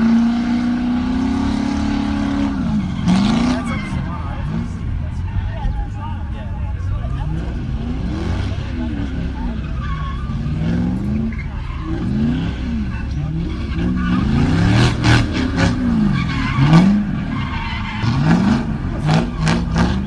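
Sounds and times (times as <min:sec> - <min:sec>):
car engine revving: 0:00.0 - 0:20.0
tyres skidding: 0:00.0 - 0:20.0.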